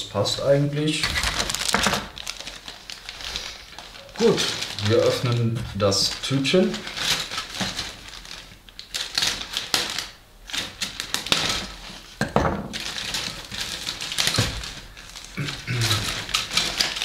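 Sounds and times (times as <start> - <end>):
plastic bag crinkling: 0.0 - 17.0
plastic sprues clattering: 1.0 - 17.0.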